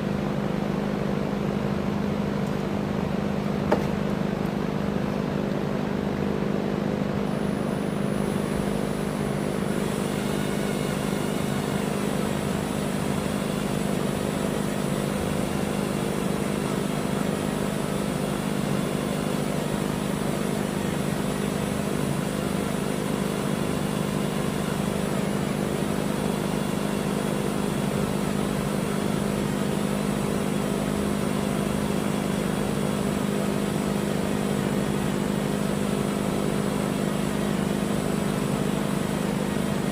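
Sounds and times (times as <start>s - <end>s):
electric drill boring through steel: 7.3s - 39.9s.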